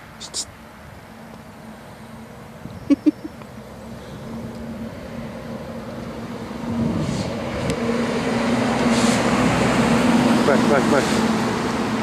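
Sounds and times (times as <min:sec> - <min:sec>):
vehicle engine running: 0:00.8 - 0:12.0.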